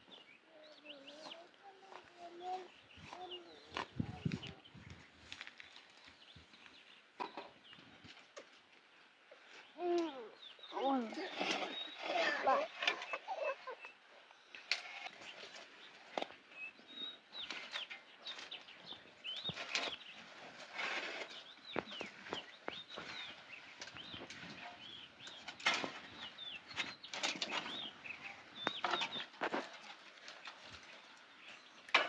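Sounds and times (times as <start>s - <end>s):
birds chirping: 0.0s - 8.1s, 8.9s - 32.0s.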